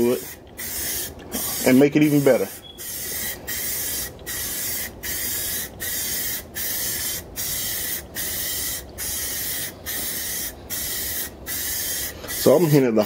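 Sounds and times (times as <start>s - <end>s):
spray paint can hissing: 0.1s - 12.8s.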